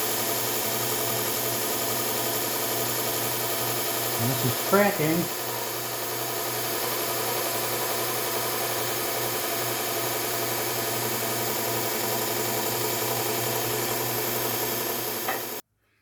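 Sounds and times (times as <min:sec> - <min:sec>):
belt sander motor humming: 0:00.0 - 0:15.6.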